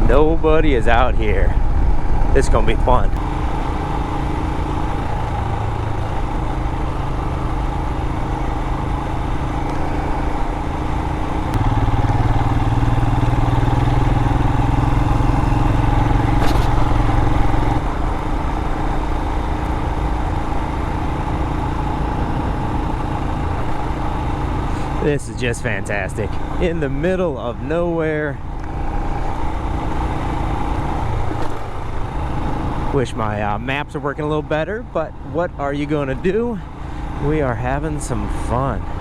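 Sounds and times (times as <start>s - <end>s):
motorcycle engine riding: 0.0s - 39.0s.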